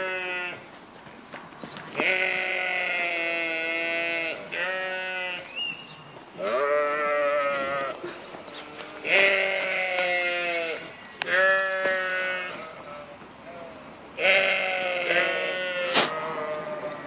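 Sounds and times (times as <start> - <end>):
sheep bleating: 0.0 - 0.6, 2.0 - 5.6, 6.4 - 17.0.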